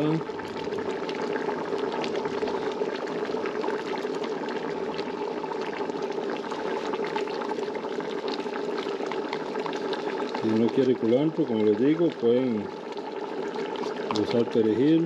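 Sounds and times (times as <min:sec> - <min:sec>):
stew bubbling in a pot: 0:00.0 - 0:15.0.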